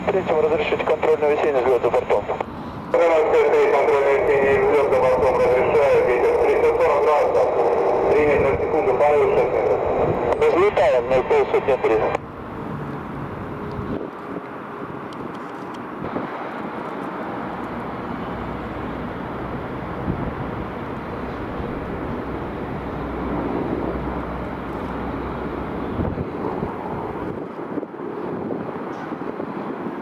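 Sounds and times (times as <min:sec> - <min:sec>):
helicopter taking off: 0:00.0 - 0:14.0, 0:15.8 - 0:27.6.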